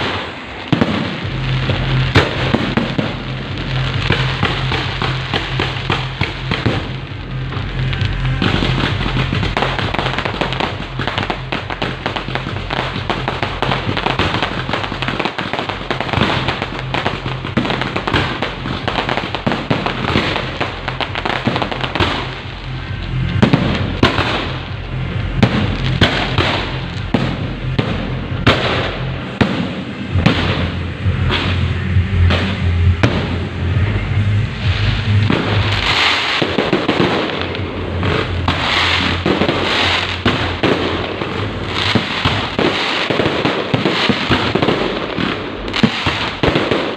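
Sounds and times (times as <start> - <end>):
firecrackers popping: 0.0 - 34.0, 34.6 - 46.9
music playing: 0.0 - 46.9.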